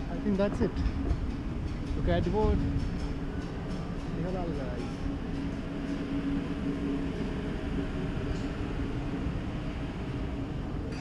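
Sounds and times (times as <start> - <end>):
steady hum: 0.0 - 11.0
street traffic rumble: 0.0 - 11.0.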